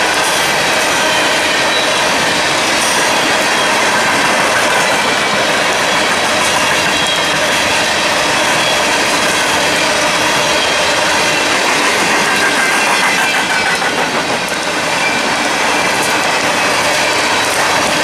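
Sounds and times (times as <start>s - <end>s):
freight train wheels rattling: 0.0s - 18.0s.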